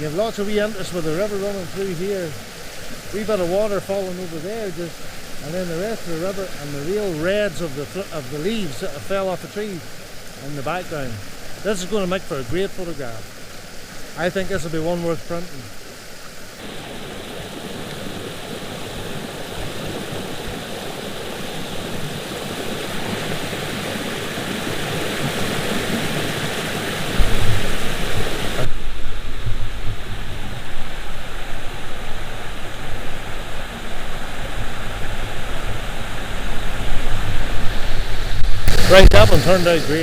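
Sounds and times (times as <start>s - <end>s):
river water rushing over waterfalls: 0.0s - 40.0s.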